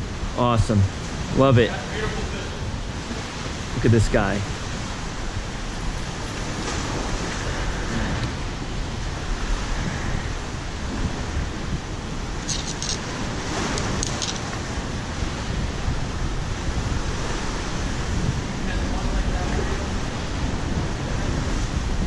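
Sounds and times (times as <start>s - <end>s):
steady rushing outdoor noise: 0.0s - 22.0s.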